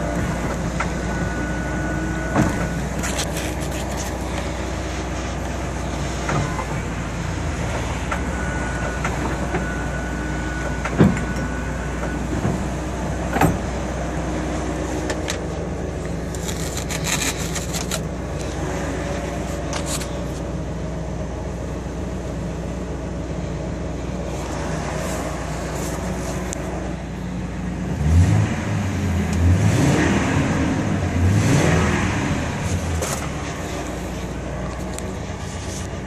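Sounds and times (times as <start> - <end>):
engine idling: 0.0 - 29.6, 30.3 - 36.0.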